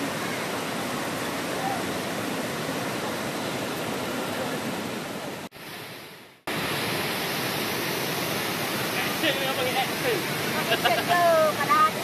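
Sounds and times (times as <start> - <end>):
waterfall rushing over boulders: 0.0 - 12.0.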